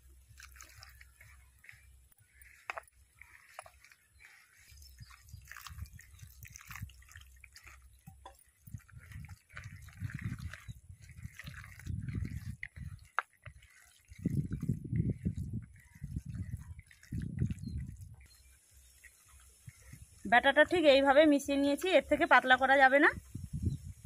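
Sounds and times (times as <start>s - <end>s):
hand squishing wet batter: 0.0s - 22.8s.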